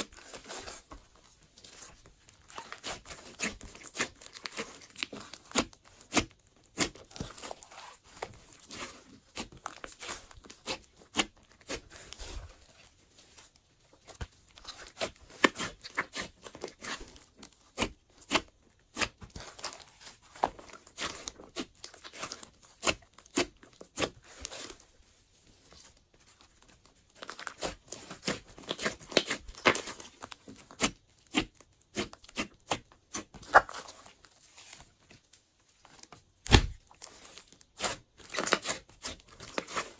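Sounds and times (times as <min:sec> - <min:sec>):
slime kneaded by hand: 0:00.0 - 0:39.9.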